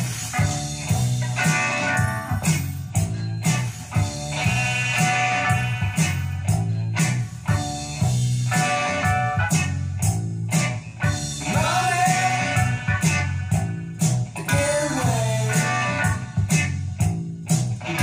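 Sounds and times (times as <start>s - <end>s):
music with bass and guitar: 0.0s - 18.0s.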